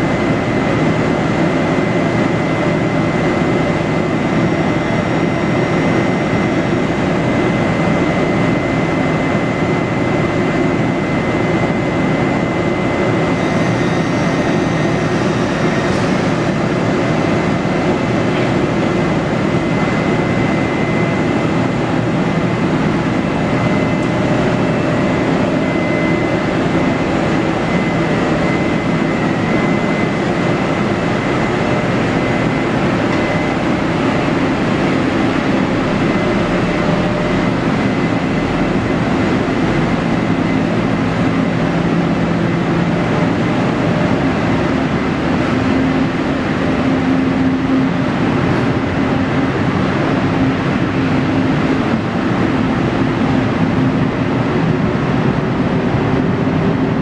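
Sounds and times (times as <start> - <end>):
electric locomotive whine: 0.0 - 57.0.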